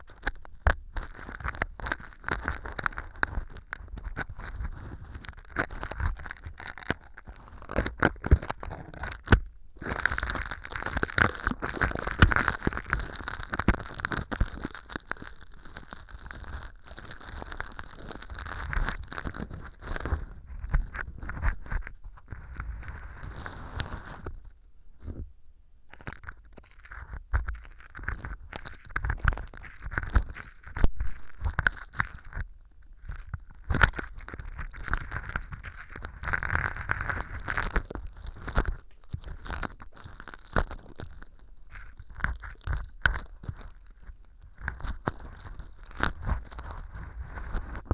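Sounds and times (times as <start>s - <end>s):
ear pick scraping and crackling: 0.0s - 25.3s, 25.9s - 47.9s.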